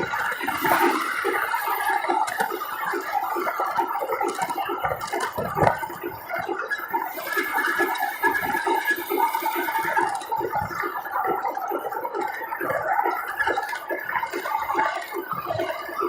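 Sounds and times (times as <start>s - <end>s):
water bubbling and gurgling: 0.0s - 16.0s.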